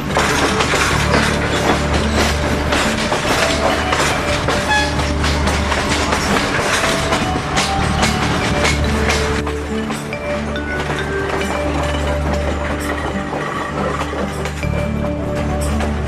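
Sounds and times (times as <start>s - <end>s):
train wheels clattering on track: 0.0s - 16.0s.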